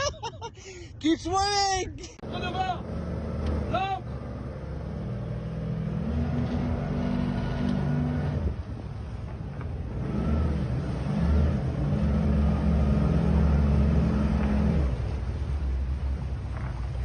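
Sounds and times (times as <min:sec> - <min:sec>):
motorboat engine running: 0:02.2 - 0:17.0.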